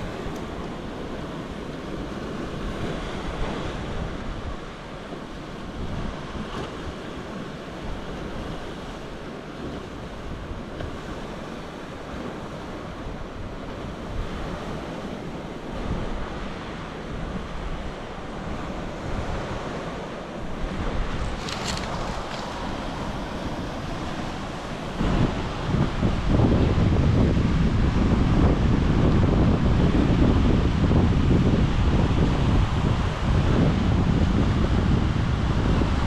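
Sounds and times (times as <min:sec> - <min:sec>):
sea surf washing on shore: 0:00.0 - 0:36.0
wind buffeting microphone: 0:00.0 - 0:36.0.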